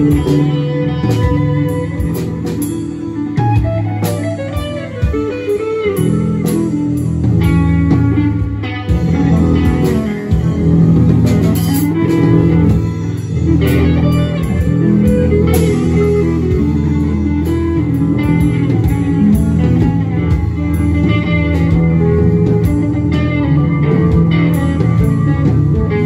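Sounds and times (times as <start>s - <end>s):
bass guitar: 0.0s - 26.0s
drums with cymbals: 0.0s - 26.0s
electric guitar lead: 0.0s - 26.0s
keyboard: 0.0s - 26.0s.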